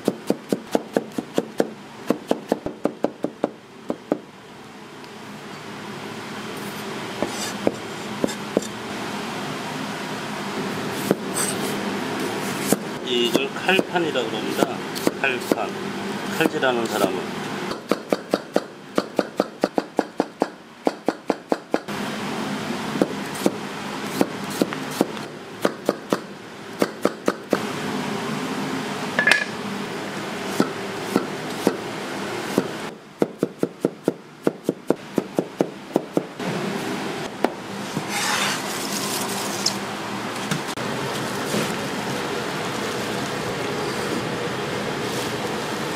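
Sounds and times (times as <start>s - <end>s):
kitchen hum: 3.5s - 17.9s, 21.9s - 33.2s, 34.2s - 45.9s.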